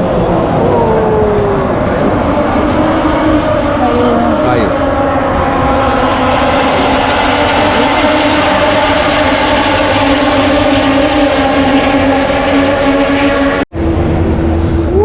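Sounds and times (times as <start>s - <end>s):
race bike engines at high revs: 0.0s - 14.9s.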